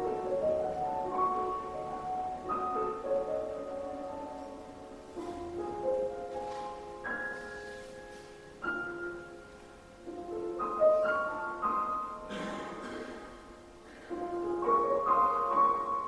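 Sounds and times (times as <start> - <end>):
slow quiet piano piece: 0.0 - 16.0.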